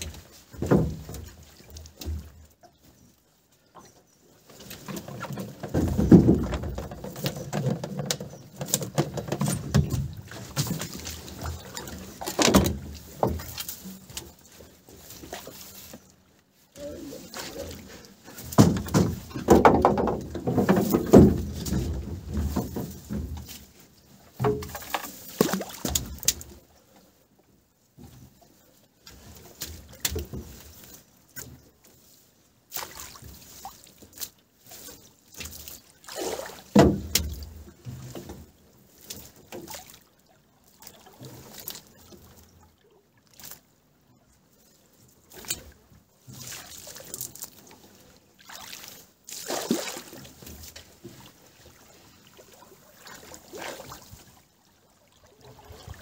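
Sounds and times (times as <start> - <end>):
water sloshing and splashing: 0.0 - 56.0.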